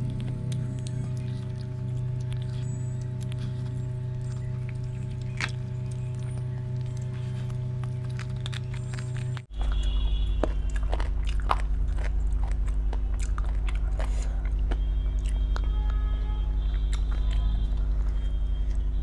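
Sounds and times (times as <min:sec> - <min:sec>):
chewing mouth sounds: 0:00.0 - 0:19.0.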